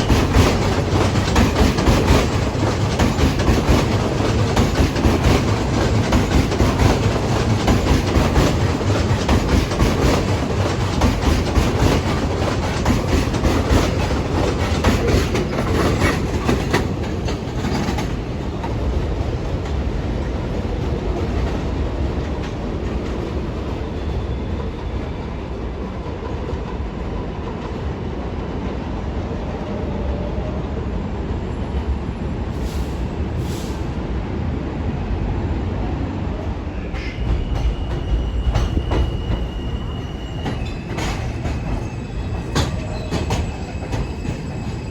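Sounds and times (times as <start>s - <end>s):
subway train rumble: 0.0s - 44.9s
subway train wheels clacking: 0.0s - 44.9s.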